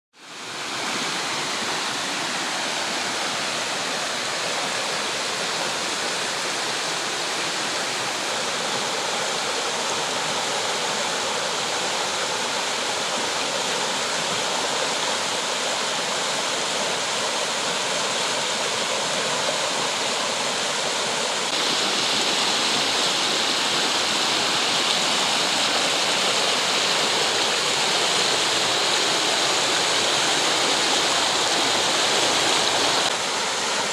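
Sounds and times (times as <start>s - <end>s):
brook rushing over rapids: 0.2s - 33.9s.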